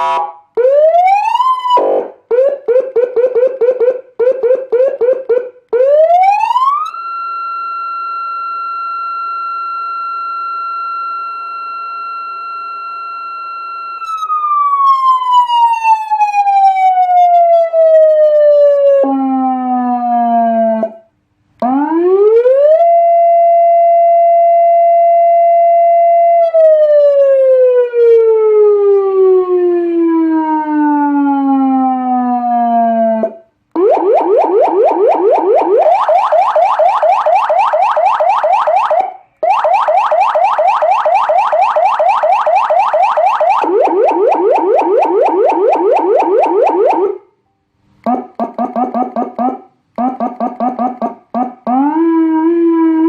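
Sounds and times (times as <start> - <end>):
electronic siren wailing: 0.0 - 47.3, 48.0 - 53.0.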